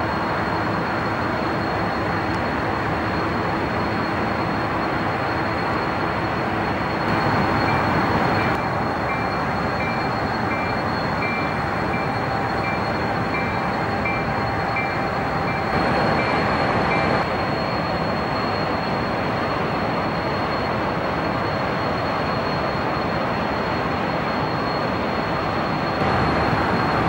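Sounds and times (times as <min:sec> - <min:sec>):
diesel locomotives rumbling: 0:00.0 - 0:27.0.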